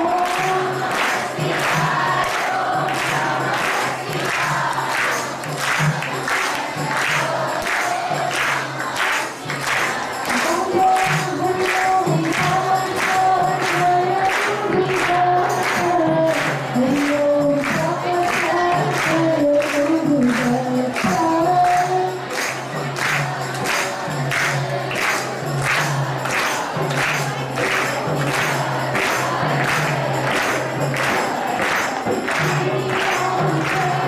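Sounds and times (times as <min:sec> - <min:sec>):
group singing a devotional song: 0:00.0 - 0:34.0
steady percussion beat: 0:00.0 - 0:34.0.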